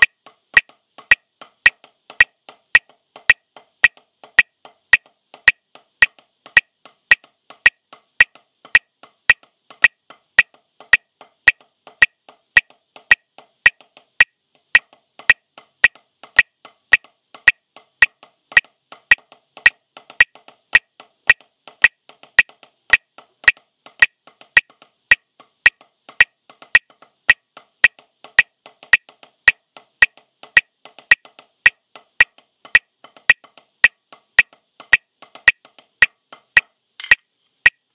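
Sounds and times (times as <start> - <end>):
drumsticks tapping practice pad: 0.0 - 37.9.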